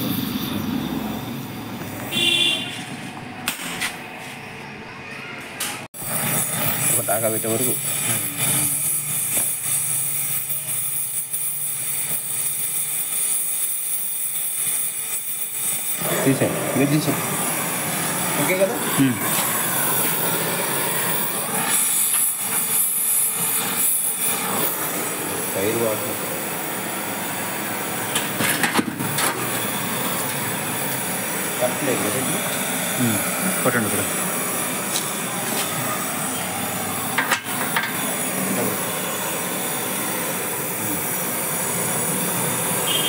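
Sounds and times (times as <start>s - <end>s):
welding torch flame hissing: 0.0s - 2.8s, 5.9s - 43.0s.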